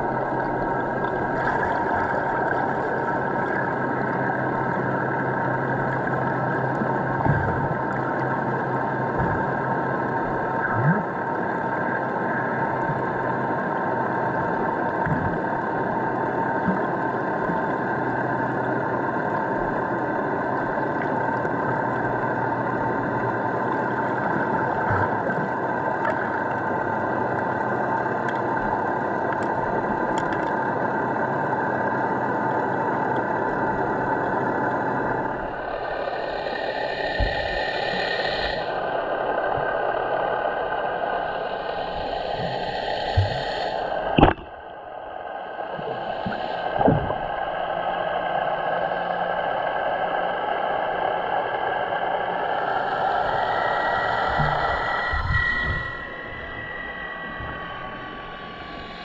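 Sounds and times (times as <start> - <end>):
low hum: 0.0 - 59.0
muffled underwater noise: 0.0 - 59.0.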